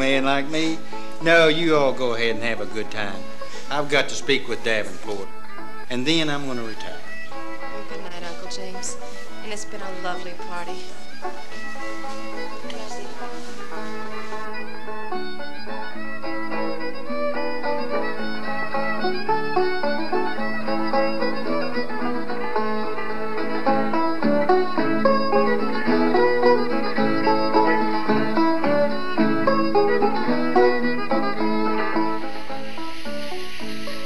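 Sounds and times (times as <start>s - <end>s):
fiddle playing dance tune: 0.0s - 34.0s
plucked strings strumming: 0.0s - 34.0s.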